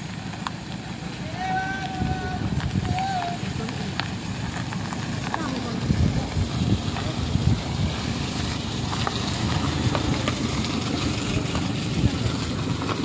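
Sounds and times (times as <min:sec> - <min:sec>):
minivan driving past: 0:00.0 - 0:13.0.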